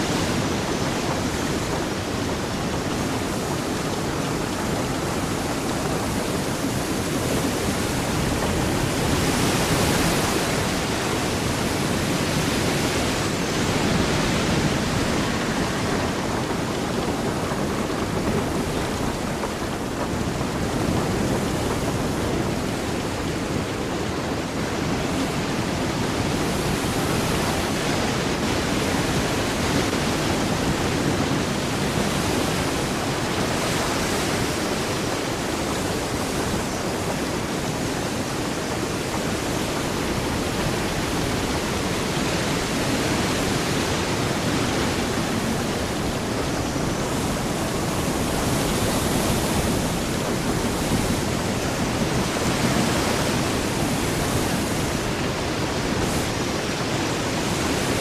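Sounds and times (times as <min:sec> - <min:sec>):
ocean water washing: 0:00.0 - 0:58.0.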